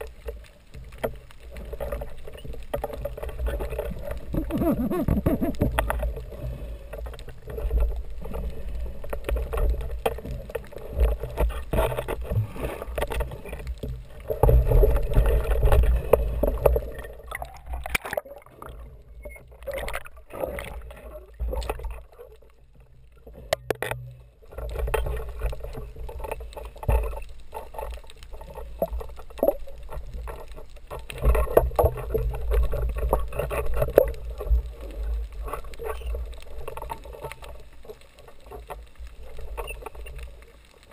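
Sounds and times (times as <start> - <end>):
crackles: 0.0 - 40.9
underwater rumble: 0.0 - 40.9.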